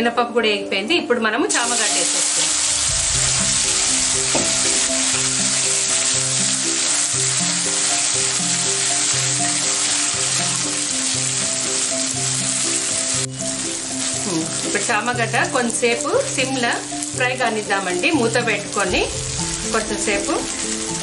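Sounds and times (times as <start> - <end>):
background music: 0.0 - 21.0
food sizzling in hot oil: 1.5 - 21.0.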